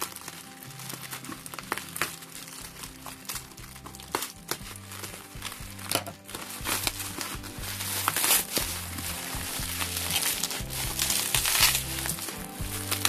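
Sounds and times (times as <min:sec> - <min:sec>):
background music: 0:00.0 - 0:13.0
bubble wrap crinkling: 0:00.0 - 0:13.0
plastic being pulled apart: 0:00.0 - 0:13.0
scissors cutting plastic: 0:00.0 - 0:13.0.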